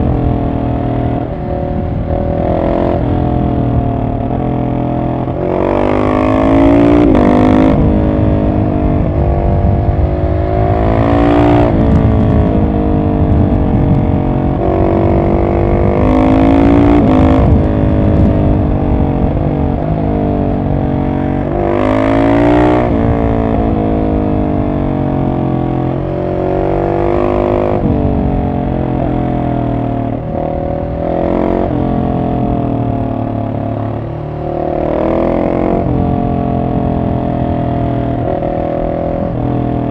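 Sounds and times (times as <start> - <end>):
motorcycle engine revving: 0.0 - 39.9
wind and road noise rumble: 0.0 - 39.9.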